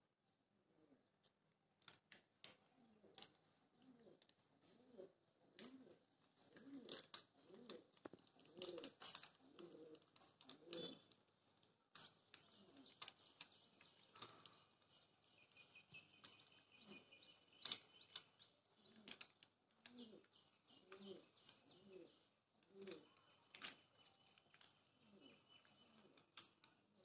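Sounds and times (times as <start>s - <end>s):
pigeons cooing: 2.7s - 11.2s, 12.0s - 27.0s.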